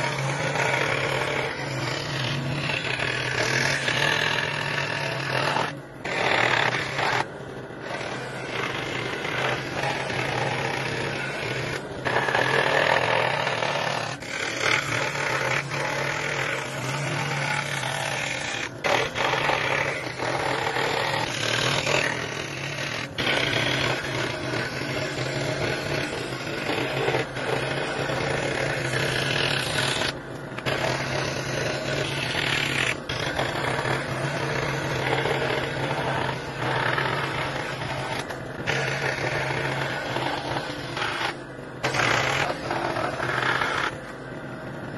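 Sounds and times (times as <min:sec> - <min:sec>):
power tool working wood: 0:00.0 - 0:44.9.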